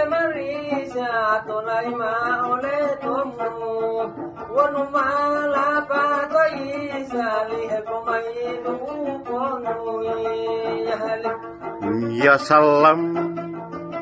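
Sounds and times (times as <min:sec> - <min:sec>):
plucked lute: 0:00.0 - 0:14.0.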